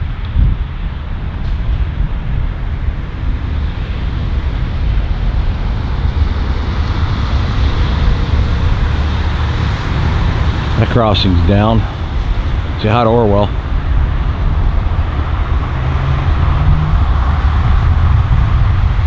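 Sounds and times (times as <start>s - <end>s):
moving vehicle rumbling: 0.0s - 19.0s.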